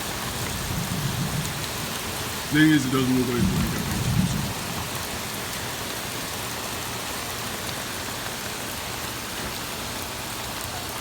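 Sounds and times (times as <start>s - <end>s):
torrential rain: 0.0s - 11.0s.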